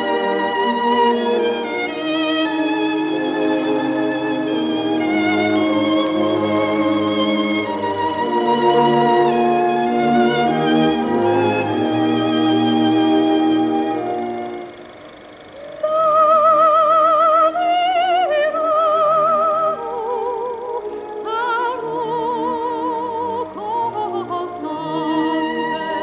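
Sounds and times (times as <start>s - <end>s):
operatic singing: 0.0s - 26.0s.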